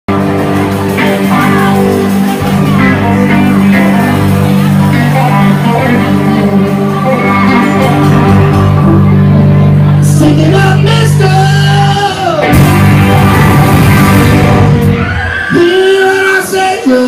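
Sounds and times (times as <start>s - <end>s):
drum kit: 0.1s - 16.2s
electric guitars: 0.1s - 17.0s.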